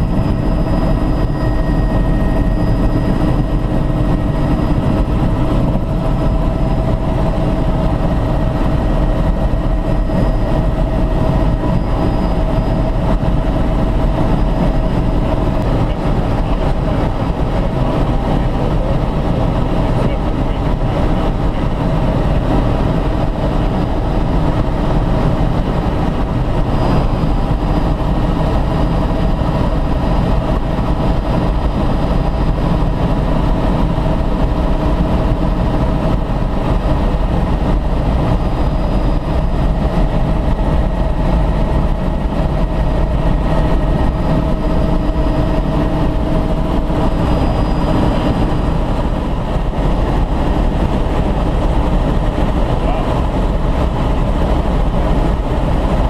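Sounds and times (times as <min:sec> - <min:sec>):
faint steady whine: 0:00.0 - 0:56.0
helicopter engine and rotor noise: 0:00.0 - 0:56.0.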